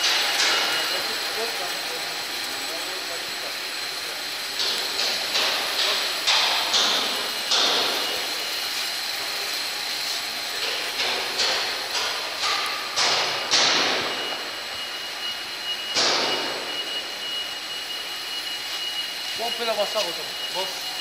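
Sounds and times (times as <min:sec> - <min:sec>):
winding machines running: 0:00.0 - 0:21.0.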